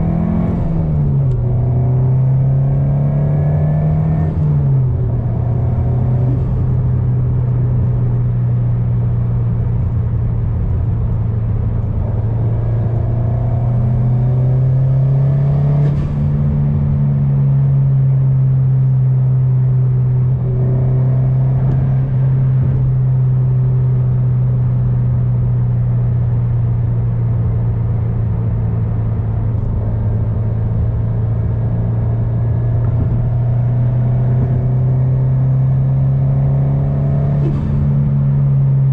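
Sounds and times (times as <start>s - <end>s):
turbocharged car engine cruising: 0.0s - 38.9s.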